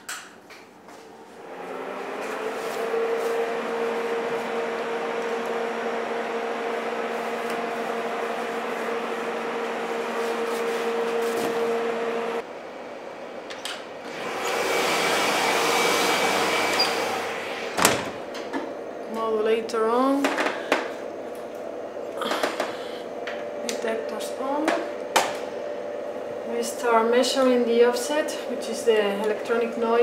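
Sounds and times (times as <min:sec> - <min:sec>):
cooling fan humming: 0:00.0 - 0:30.0.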